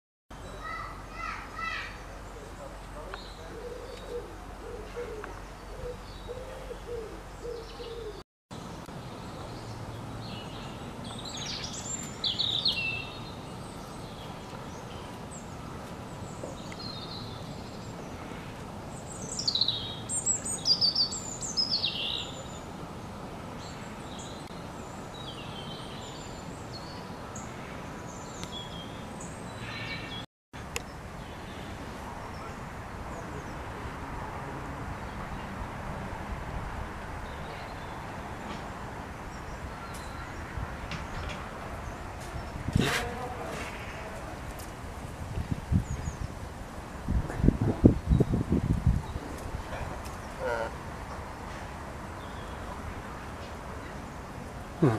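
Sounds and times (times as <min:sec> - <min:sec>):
outdoor background hiss: 0:00.3 - 0:54.9
songbirds chirping: 0:00.3 - 0:54.9.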